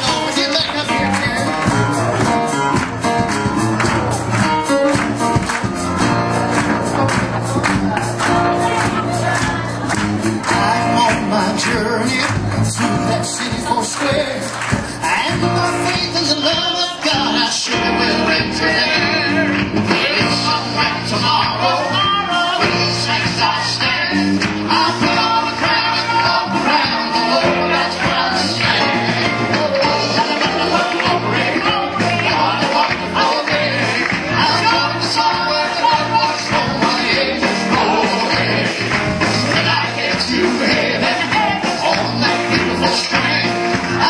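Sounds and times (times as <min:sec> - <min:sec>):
bass notes: 0:00.0 - 0:44.0
drum beat: 0:00.0 - 0:44.0
gospel band playing: 0:00.0 - 0:44.0.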